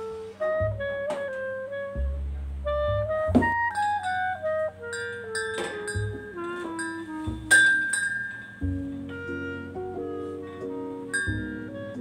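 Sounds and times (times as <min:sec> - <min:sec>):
instrumental melody over bass: 0:00.0 - 0:12.0.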